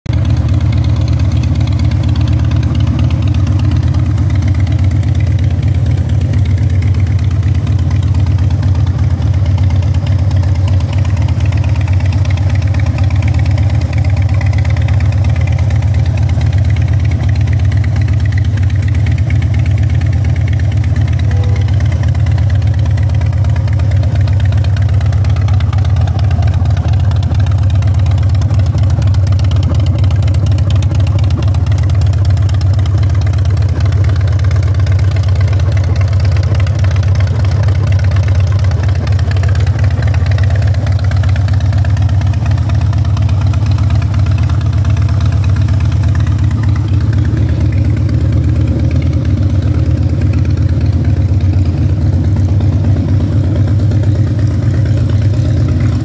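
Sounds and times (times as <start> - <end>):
motorcycle engine idling: 0.1 - 56.0.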